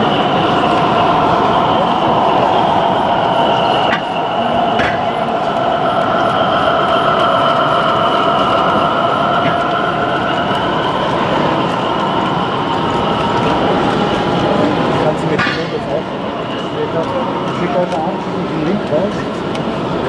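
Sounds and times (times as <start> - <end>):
model train running: 0.0 - 20.0.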